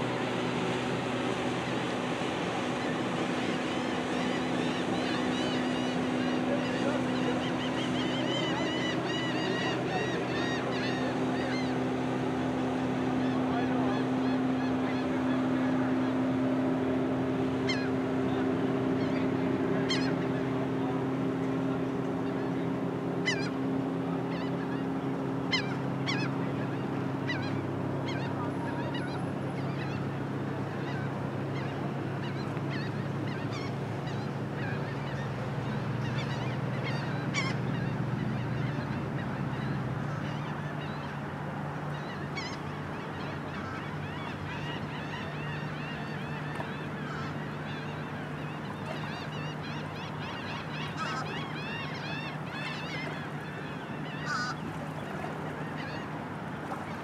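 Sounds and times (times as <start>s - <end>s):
flock of birds chattering: 2.4s - 57.0s.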